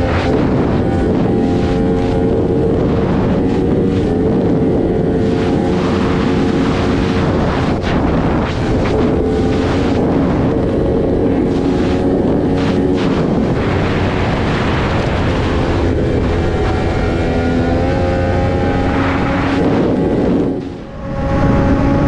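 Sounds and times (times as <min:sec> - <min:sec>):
motorcycle engine running: 0:00.0 - 0:22.0
wind rush over microphone: 0:00.0 - 0:22.0.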